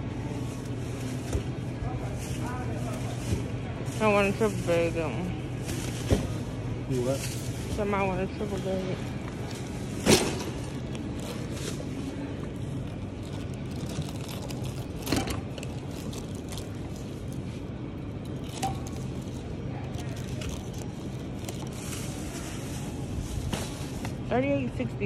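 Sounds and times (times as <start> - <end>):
knocks and rustles of groceries: 0.0 - 24.6
store background hum: 0.0 - 25.0.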